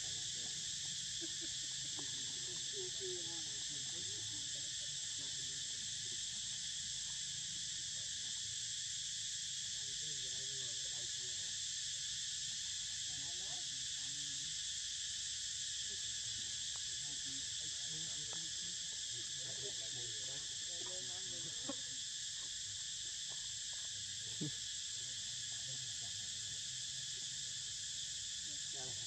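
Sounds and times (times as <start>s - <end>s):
shrill insect chorus: 0.0s - 29.0s.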